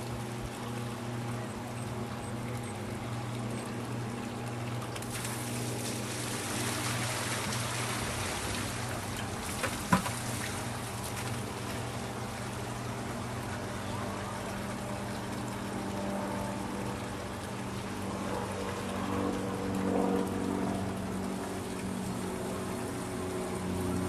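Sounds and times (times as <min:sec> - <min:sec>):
pump humming: 0:00.0 - 0:24.0
water splashing and trickling: 0:00.0 - 0:24.0.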